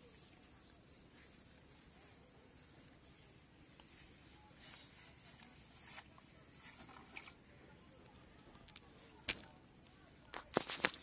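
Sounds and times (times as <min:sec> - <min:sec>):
faint handling rustle: 0:00.0 - 0:11.0.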